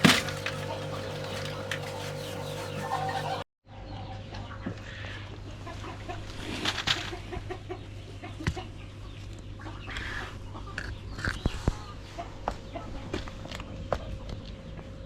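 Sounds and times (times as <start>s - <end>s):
chickens clucking: 0.0s - 14.4s.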